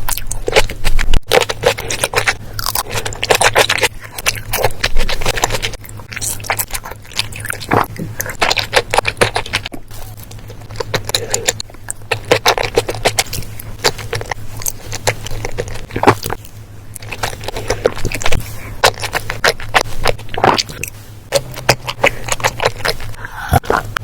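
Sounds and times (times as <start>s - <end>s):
food crunching while chewed: 0.0s - 24.0s
steady low hum: 0.0s - 24.0s.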